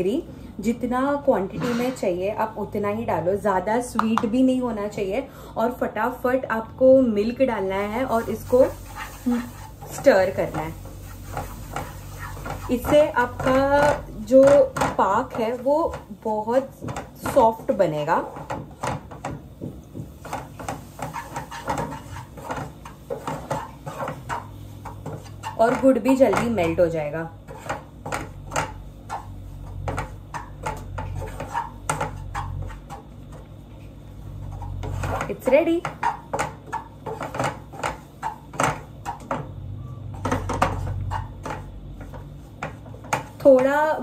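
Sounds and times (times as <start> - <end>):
wooden spatula scraping pan: 1.5 - 2.2, 7.8 - 44.0.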